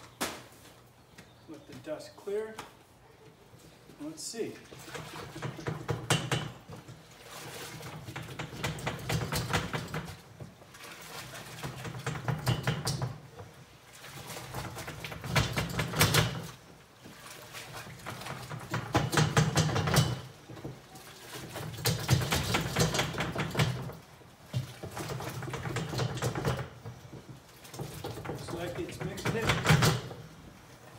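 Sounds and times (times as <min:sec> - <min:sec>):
mortar churning in plastic drum: 0:04.6 - 0:30.3.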